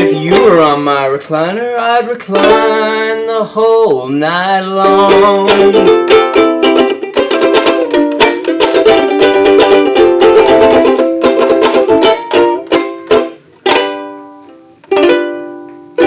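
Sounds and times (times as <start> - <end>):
acoustic string instrument strumming: 0.0 - 16.0.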